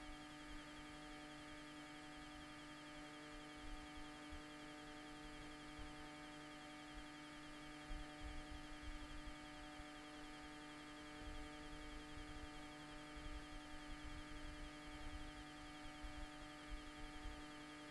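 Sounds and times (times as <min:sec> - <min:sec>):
electrical hum: 0:00.0 - 0:17.9.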